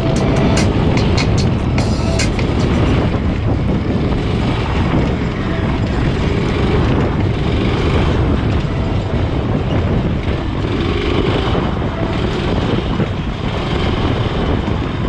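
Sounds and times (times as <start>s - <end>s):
go-kart engine running: 0.0s - 15.0s
wind buffeting microphone: 0.0s - 15.0s.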